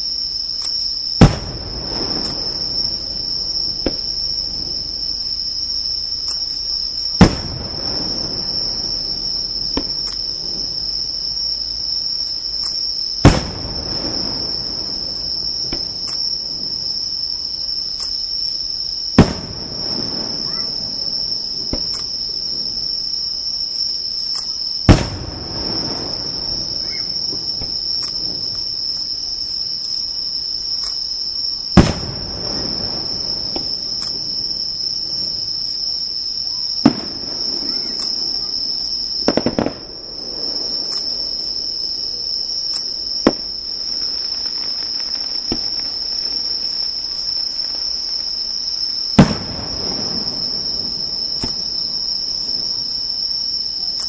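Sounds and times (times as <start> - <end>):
fireworks booming: 0.0 - 54.0
fireworks crackling: 0.0 - 54.0
high insect trill: 0.0 - 54.0.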